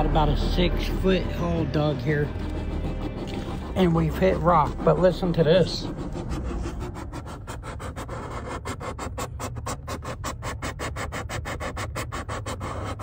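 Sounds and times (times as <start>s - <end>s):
rapid evenly spaced pulses: 0.0s - 11.4s
steady low hum: 0.0s - 13.0s.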